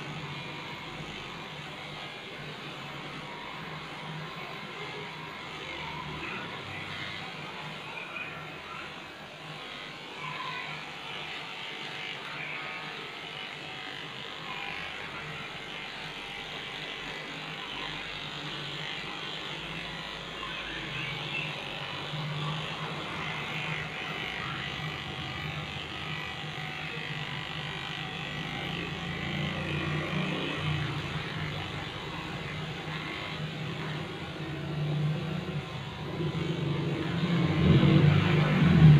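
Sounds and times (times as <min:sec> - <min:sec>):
electric clipper buzzing: 0:00.0 - 0:38.9.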